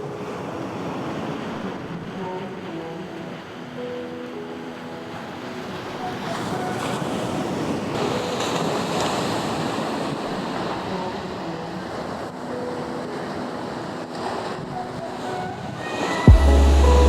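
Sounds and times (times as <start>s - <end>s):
sea waves surging onto shore: 0.0s - 16.3s.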